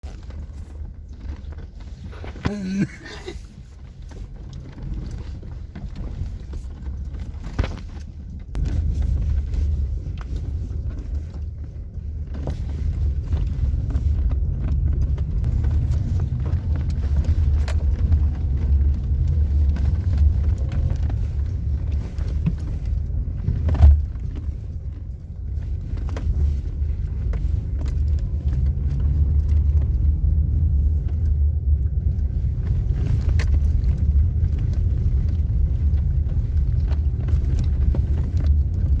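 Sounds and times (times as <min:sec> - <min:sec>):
low engine rumble: 0:00.0 - 0:39.0.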